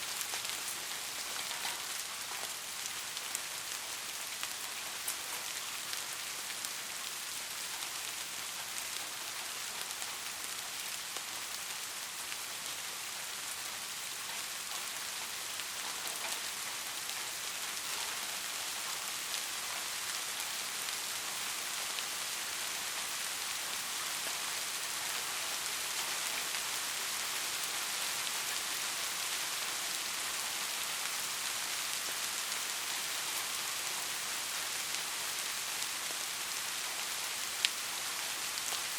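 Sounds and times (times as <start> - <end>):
soft rain pattering: 0.0 - 38.9.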